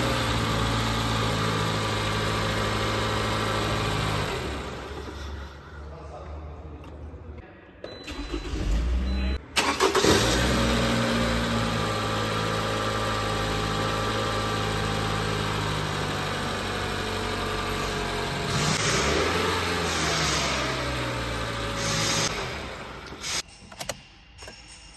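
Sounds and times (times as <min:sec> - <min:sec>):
car engine starting and idling: 0:00.0 - 0:05.8, 0:07.8 - 0:24.0.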